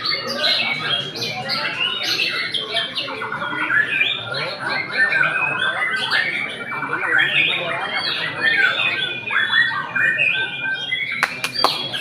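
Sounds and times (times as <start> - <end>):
birds singing fast whistles and trills: 0.0 - 12.0.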